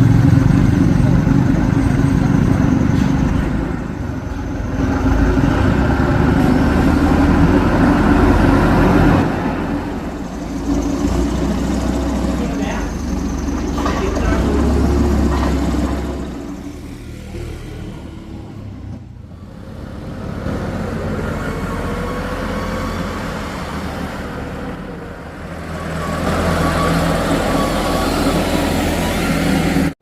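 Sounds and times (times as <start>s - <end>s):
heavy diesel engine under load: 0.0s - 30.0s.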